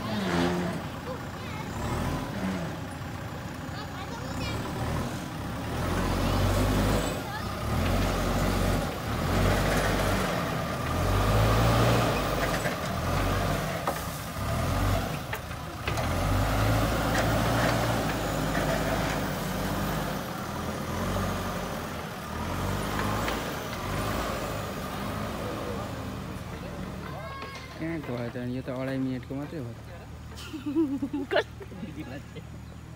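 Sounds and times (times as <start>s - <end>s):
diesel engine working under load: 0.0s - 32.9s.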